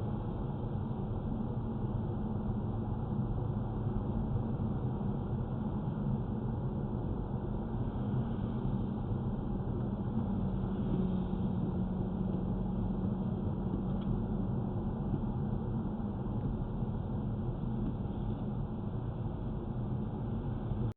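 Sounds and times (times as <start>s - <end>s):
car engine rumbling: 0.1s - 20.9s.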